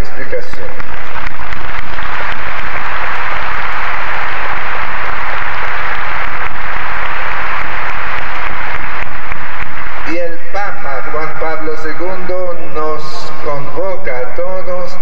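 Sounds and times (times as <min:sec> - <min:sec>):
large crowd applauding: 0:00.0 - 0:14.5.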